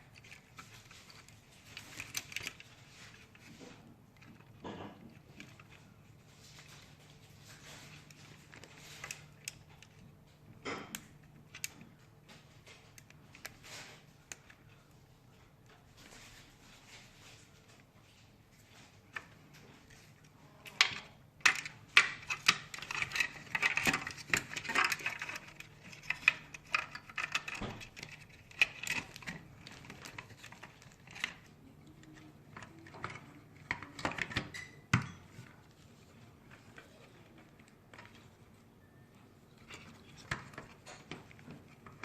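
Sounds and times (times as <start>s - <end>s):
plastic parts clicking and clattering: 0.0s - 14.8s, 18.8s - 38.6s, 39.5s - 42.0s.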